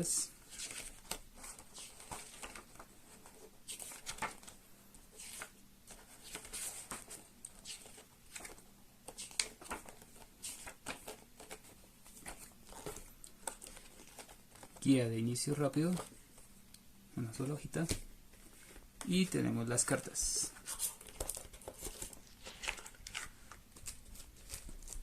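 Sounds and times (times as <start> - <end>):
paper and cardboard rustling: 0.4 - 16.4, 17.4 - 25.0.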